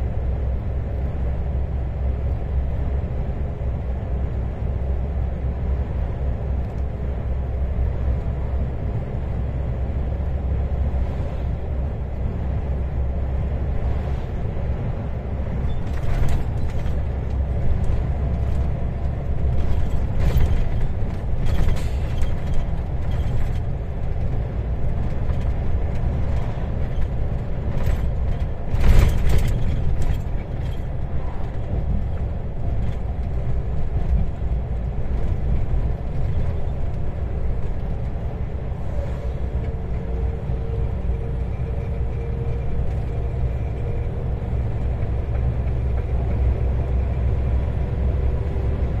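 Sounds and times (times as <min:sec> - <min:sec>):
road and engine rumble: 0:00.0 - 0:49.0.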